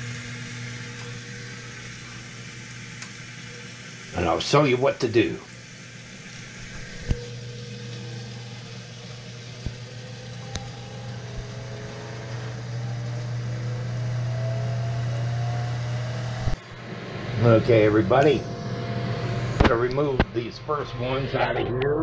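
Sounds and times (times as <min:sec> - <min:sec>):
grill fan humming: 0:00.0 - 0:22.0.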